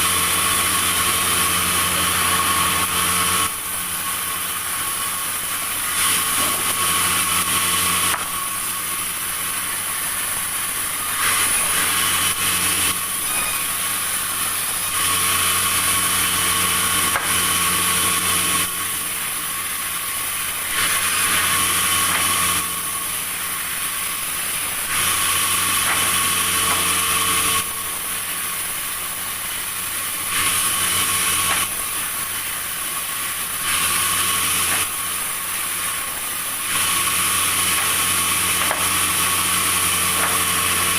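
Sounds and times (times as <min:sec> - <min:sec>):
sawmill machinery humming: 0:00.0 - 0:40.9.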